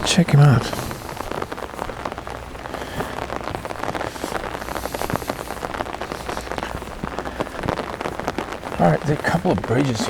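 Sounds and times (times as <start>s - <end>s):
heavy rain falling: 0.0s - 10.0s
raindrops ticking: 0.0s - 10.0s.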